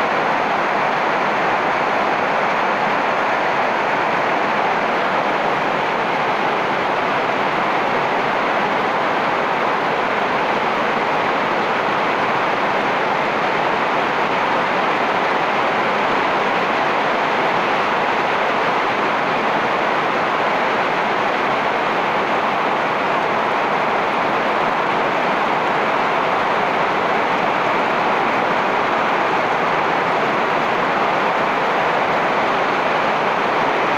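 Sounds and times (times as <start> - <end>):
heavy rain on leaves: 0.0 - 33.9.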